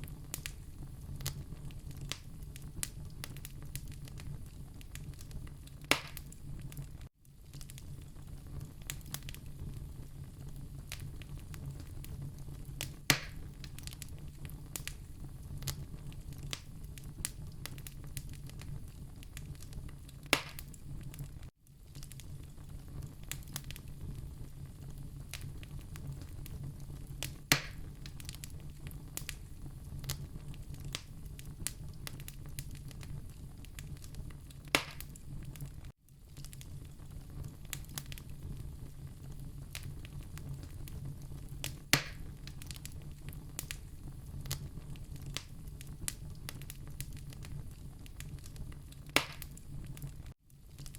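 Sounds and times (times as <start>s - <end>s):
sharp fire pops: 0.0s - 50.9s
wood fire crackling: 0.0s - 50.9s.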